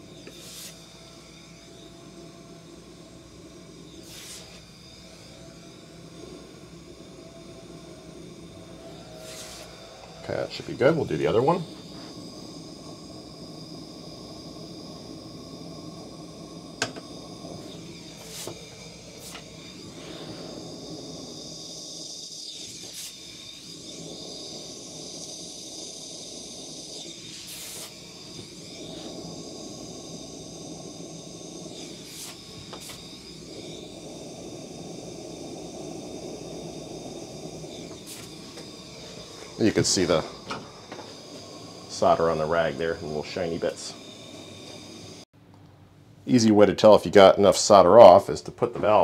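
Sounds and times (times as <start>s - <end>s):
gas torch flame hissing: 0.0s - 45.3s, 46.3s - 49.0s.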